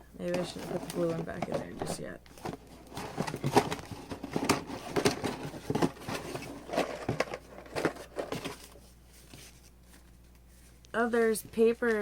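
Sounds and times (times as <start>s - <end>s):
packaging crinkling and rustling: 0.4s - 10.5s.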